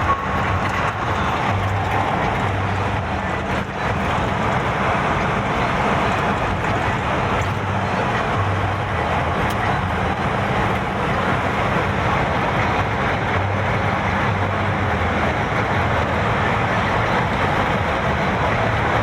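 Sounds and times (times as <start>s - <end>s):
car engine hum: 0.0s - 19.0s
road and wind noise: 0.0s - 19.0s.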